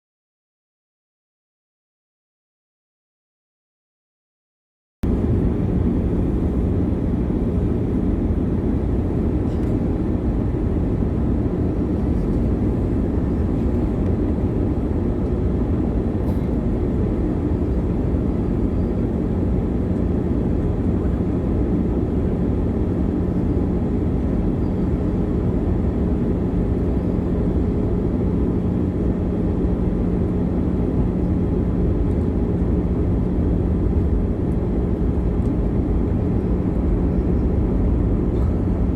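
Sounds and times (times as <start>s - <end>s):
airliner cabin engine rumble: 5.0s - 38.9s
faint constant hum: 5.1s - 38.9s.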